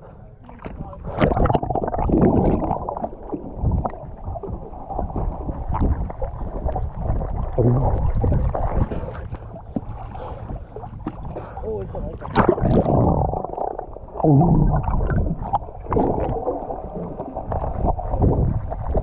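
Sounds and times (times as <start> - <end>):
water sloshing and gurgling: 0.0 - 19.0
water splashes: 0.4 - 19.0.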